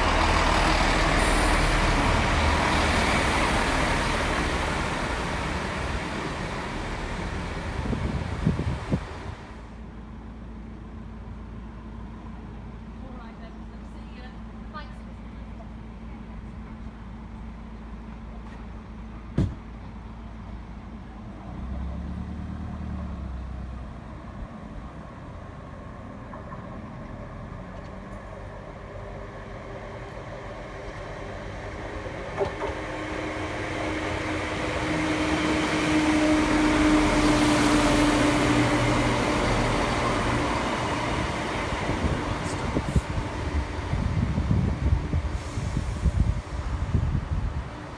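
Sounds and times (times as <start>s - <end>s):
diesel train passing: 0.0s - 47.9s.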